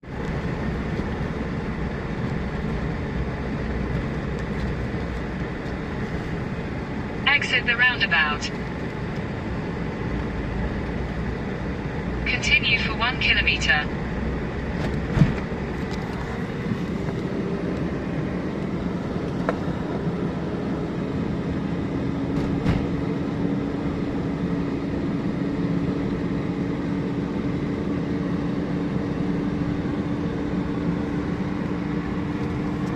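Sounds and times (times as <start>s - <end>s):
car engine and tyre road noise: 0.0s - 32.9s.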